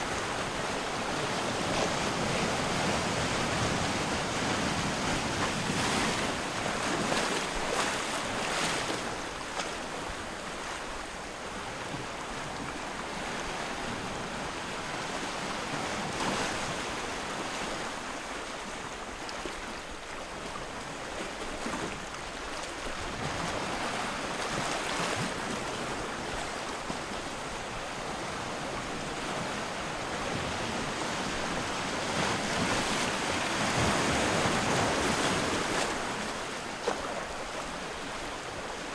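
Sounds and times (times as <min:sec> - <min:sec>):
moving water: 0:00.0 - 0:38.9
wind: 0:00.0 - 0:38.9.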